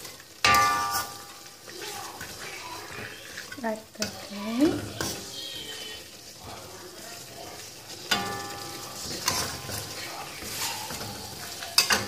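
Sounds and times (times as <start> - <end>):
metal spatula stirring in a pan: 0.0 - 12.0
sizzling: 0.0 - 12.0.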